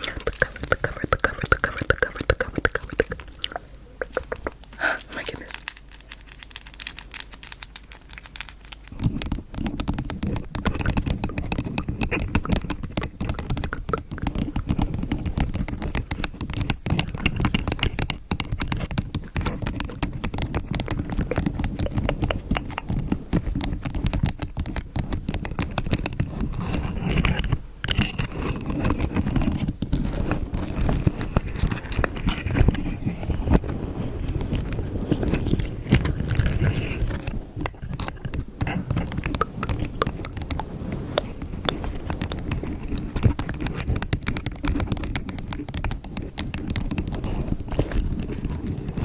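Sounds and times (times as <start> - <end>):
scratching and tapping on microphone: 0.0 - 49.0.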